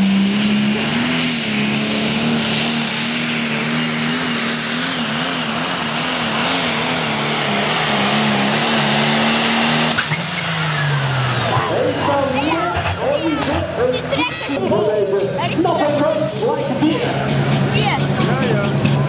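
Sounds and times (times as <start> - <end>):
tractor diesel engine roaring: 0.0 - 19.0.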